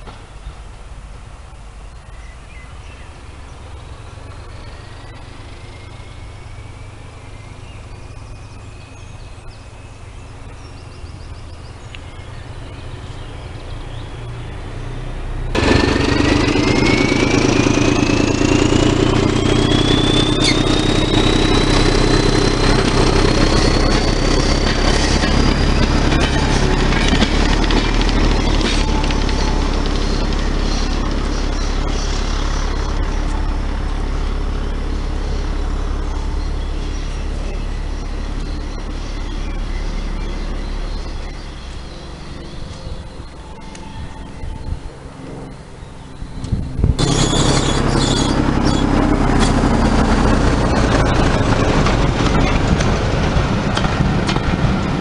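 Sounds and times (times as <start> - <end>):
diesel locomotive working hard: 0.0 - 55.0
distant diesel locomotive whine: 0.0 - 55.0.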